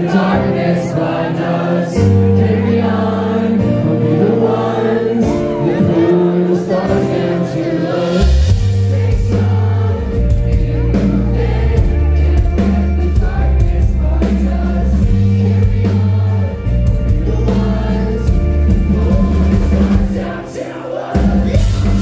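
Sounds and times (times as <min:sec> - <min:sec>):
loud rock band playing: 0:00.0 - 0:22.0
person singing: 0:00.0 - 0:22.0.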